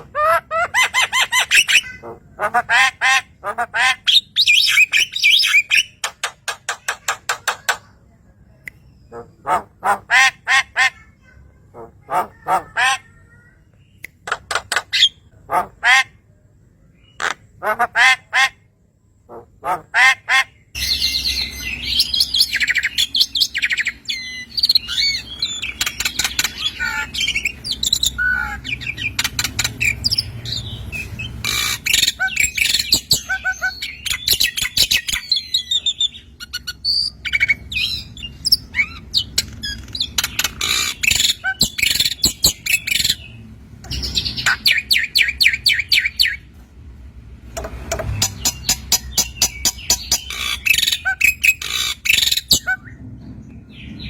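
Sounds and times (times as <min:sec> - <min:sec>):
harsh repeated bird calls: 0:00.0 - 0:08.0, 0:08.7 - 0:46.5, 0:47.8 - 0:54.0
high-pitched bird chirping: 0:00.0 - 0:16.2, 0:19.6 - 0:46.5, 0:48.1 - 0:54.0.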